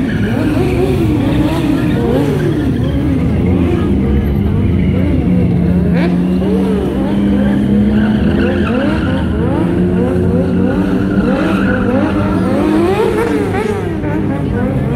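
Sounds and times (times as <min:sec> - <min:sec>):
motorcycle engine held at high rev: 0:00.0 - 0:14.9
motorcycle engines revving up and down: 0:00.0 - 0:14.9.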